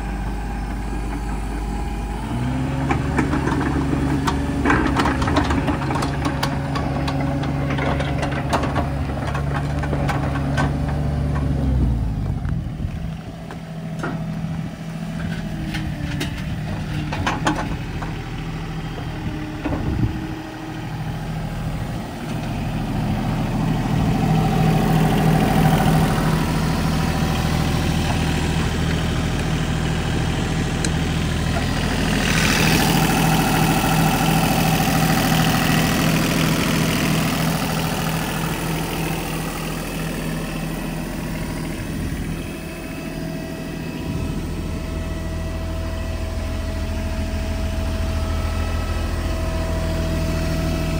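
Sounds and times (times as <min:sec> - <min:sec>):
excavator diesel engine idling: 0:00.0 - 0:50.9.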